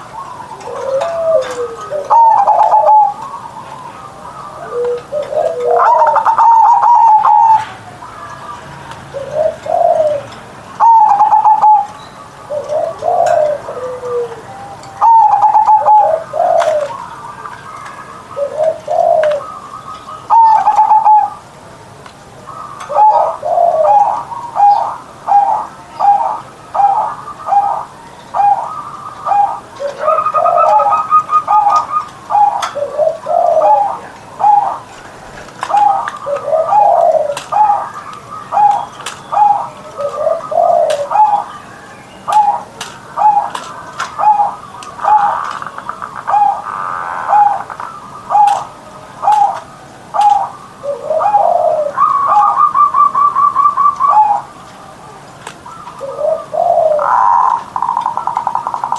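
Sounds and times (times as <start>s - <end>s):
dove cooing: 0.0s - 21.5s, 22.4s - 58.9s.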